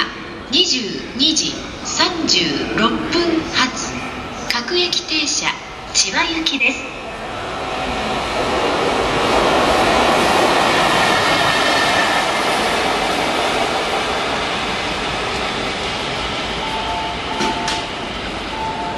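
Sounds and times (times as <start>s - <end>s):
electric locomotive passing: 0.0s - 18.9s.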